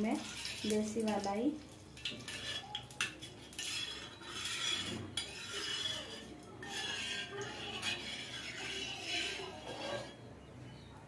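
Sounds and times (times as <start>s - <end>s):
metal spatula scraping a pan: 0.0s - 10.4s.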